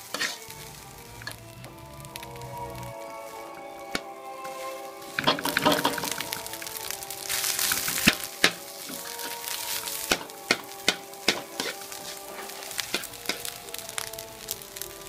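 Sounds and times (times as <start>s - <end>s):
metal spatula scraping a pan: 0.0s - 1.5s, 3.9s - 14.6s
background music with held notes: 0.0s - 15.0s
rice sizzling: 0.0s - 15.0s.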